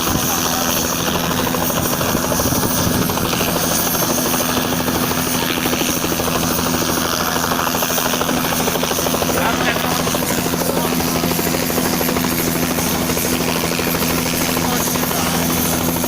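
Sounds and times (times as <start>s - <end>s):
helicopter rotor drone: 0.0s - 16.0s.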